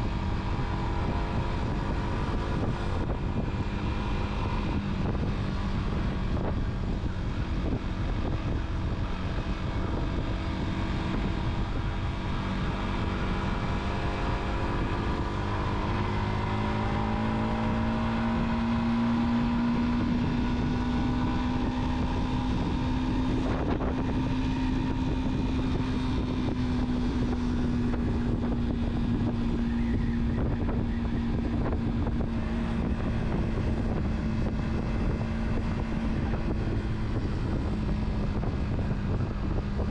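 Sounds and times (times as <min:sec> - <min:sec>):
car engine hum: 0:00.0 - 0:39.9
tyre road noise: 0:00.0 - 0:39.9.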